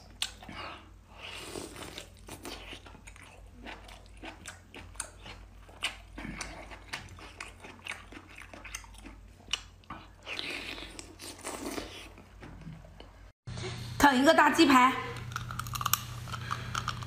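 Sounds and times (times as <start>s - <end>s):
person chewing and sucking: 0.0s - 12.4s, 15.2s - 17.0s.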